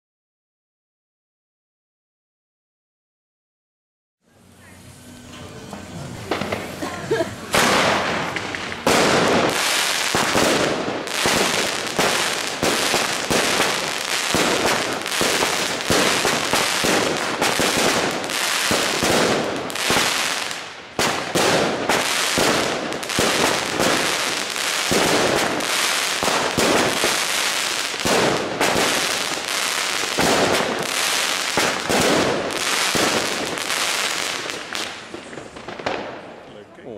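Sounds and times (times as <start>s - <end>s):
fireworks shots and star bursts: 5.6s - 36.5s.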